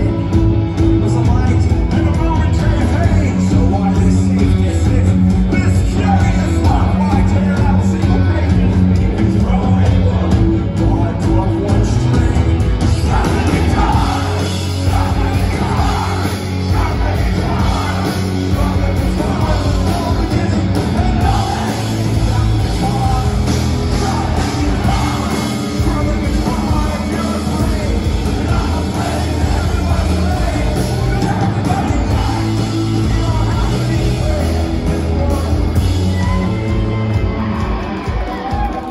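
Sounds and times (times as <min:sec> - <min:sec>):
electric guitars: 0:00.0 - 0:38.9
live rock band playing: 0:00.0 - 0:38.9
person singing: 0:00.0 - 0:38.9.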